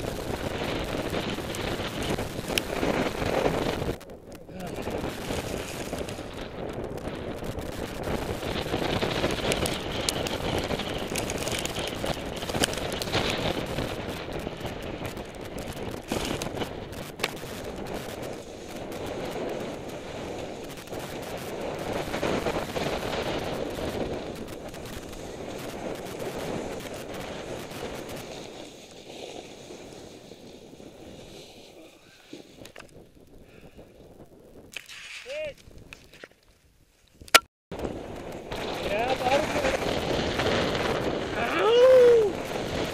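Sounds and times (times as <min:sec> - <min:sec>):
skiing down snow slope: 0:00.0 - 0:42.9.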